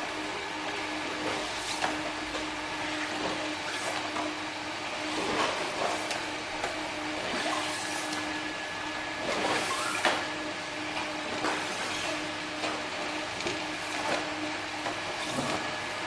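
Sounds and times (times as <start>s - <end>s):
machine motor hum and whir: 0.0s - 16.0s.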